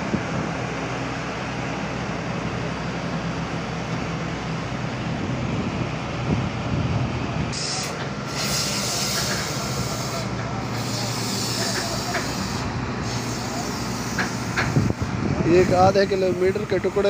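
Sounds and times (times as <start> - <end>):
truck engines running: 0.0 - 17.0.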